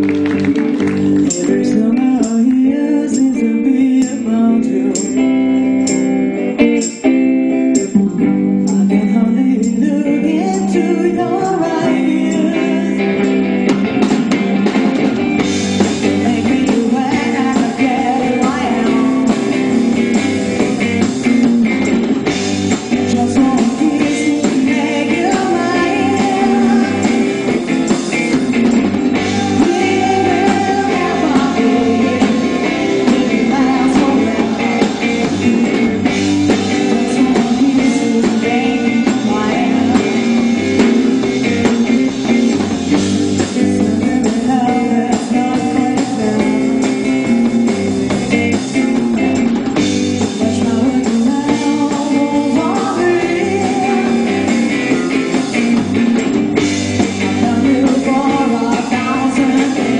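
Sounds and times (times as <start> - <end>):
lead vocal singing: 0.0 - 5.6, 7.9 - 13.5, 15.9 - 21.9, 22.8 - 42.3, 43.4 - 47.4, 50.2 - 56.0, 57.0 - 59.9
drum kit: 0.0 - 9.9, 10.5 - 59.9
electric guitars: 0.0 - 59.9.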